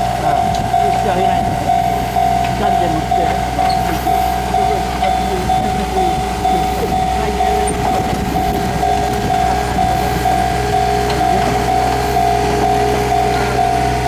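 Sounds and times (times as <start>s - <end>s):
level crossing bell ringing: 0.0s - 14.0s
low rumble: 0.0s - 14.0s.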